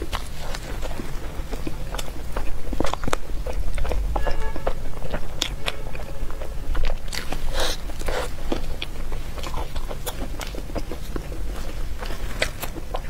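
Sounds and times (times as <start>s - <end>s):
person chewing food: 0.0s - 13.0s
steady low hum: 0.0s - 13.0s.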